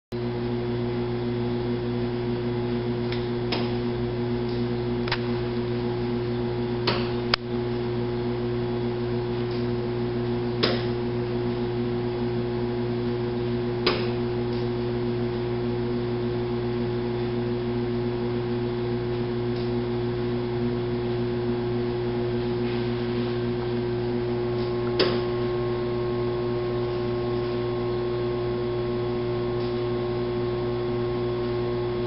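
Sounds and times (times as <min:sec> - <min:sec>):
electrical hum: 0:00.1 - 0:32.0.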